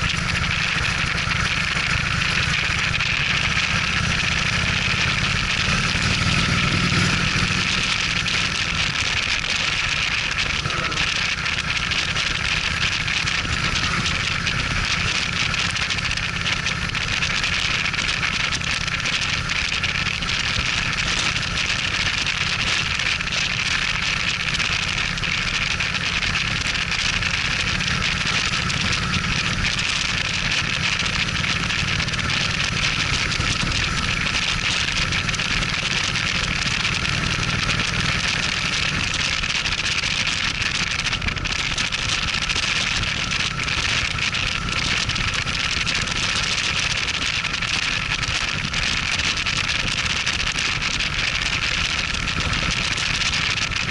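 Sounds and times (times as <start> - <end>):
motorcycle engine running: 0.0 - 53.9
wind and road noise: 0.0 - 53.9.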